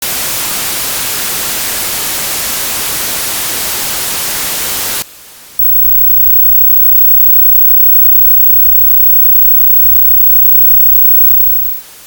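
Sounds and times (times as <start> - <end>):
television static hiss: 1.4 - 12.0.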